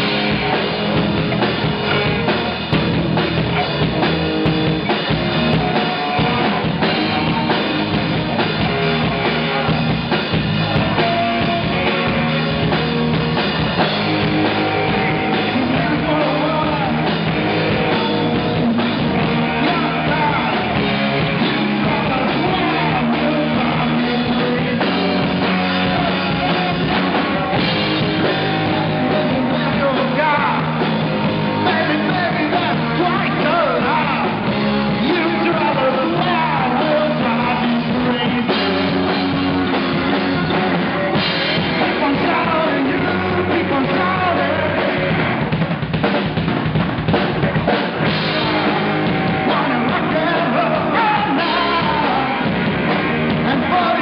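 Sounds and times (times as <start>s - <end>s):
man singing: 0.0s - 45.4s, 47.7s - 54.0s
drum kit: 0.0s - 54.0s
electric bass: 0.0s - 54.0s
electric guitars: 0.0s - 54.0s.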